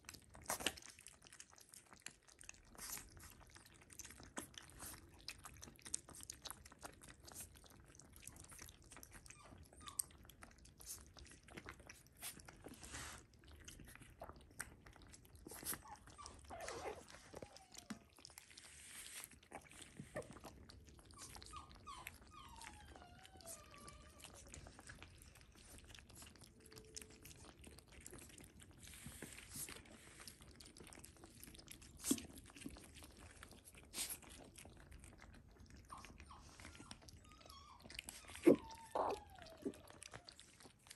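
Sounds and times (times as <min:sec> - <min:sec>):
puppies eating wet food: 0:00.0 - 0:40.9
puppy whimpers: 0:05.9 - 0:13.2, 0:14.6 - 0:40.9.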